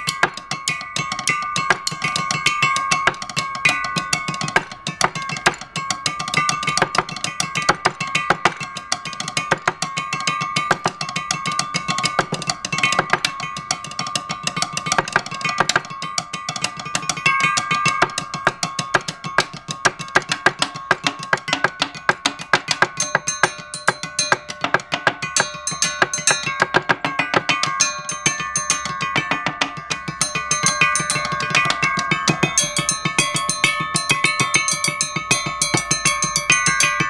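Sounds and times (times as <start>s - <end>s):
bell-like ringing tones: 0.0s - 37.0s
mallets striking steel tubes: 0.0s - 37.0s.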